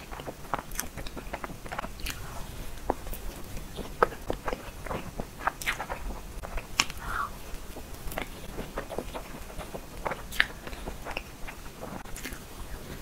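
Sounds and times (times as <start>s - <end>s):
wet chewing: 0.0s - 13.0s
lip smacks and clicks: 0.1s - 13.0s.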